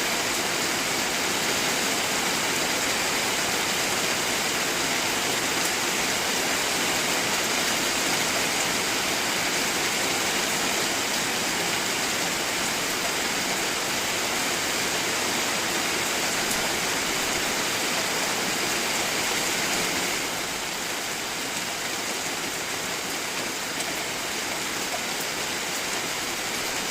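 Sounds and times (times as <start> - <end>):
rushing water: 0.0 - 26.9.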